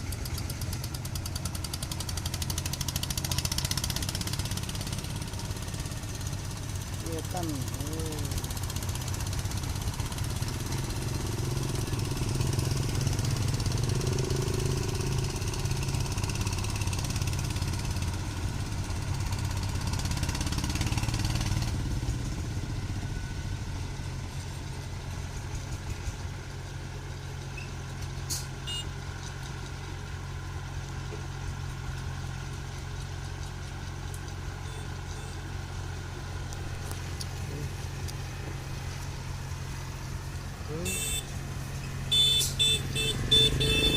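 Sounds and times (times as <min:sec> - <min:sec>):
farm vehicle engine running: 0:00.0 - 0:43.9.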